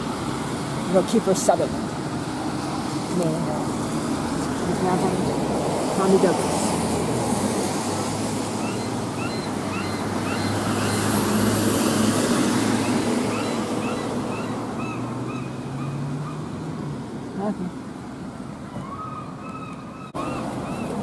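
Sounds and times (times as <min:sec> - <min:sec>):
vehicle engine passing: 0:00.0 - 0:17.8
traffic noise: 0:00.0 - 0:21.0.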